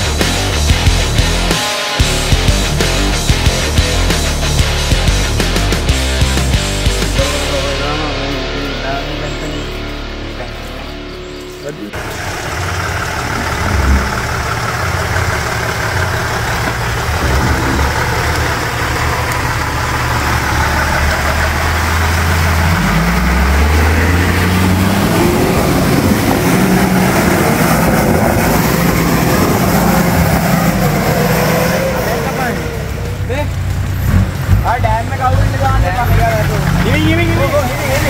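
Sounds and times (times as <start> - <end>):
engine running under load: 7.1 - 38.0.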